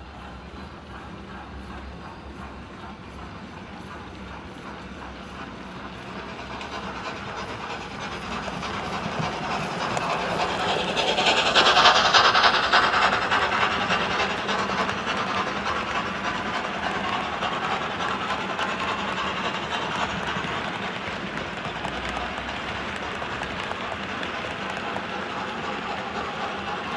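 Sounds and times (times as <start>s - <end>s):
model steam locomotive sounds: 0.0s - 26.9s.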